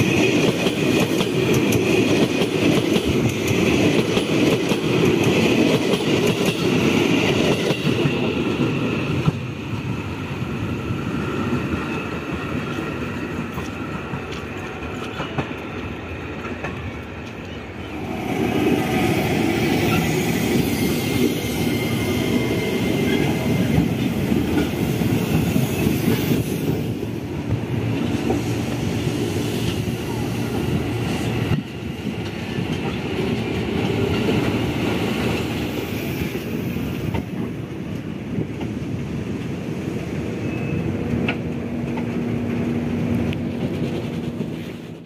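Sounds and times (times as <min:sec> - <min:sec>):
trains rumbling past: 0:00.0 - 0:45.0.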